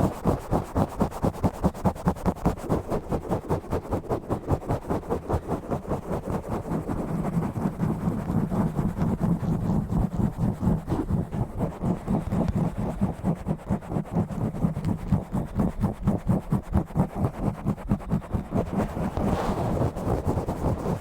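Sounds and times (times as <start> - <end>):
scratching on microphone: 0.0 - 21.0.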